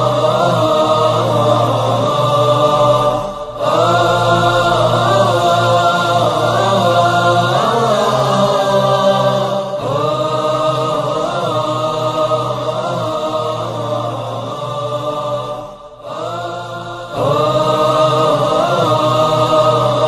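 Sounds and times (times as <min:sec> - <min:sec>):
chanted vocal melody: 0:00.0 - 0:20.0.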